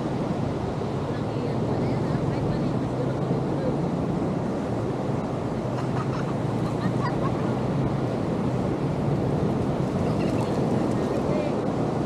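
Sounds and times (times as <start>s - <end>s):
ocean surf washing ashore: 0.0s - 12.0s
wind rumbling on microphone: 0.0s - 12.0s.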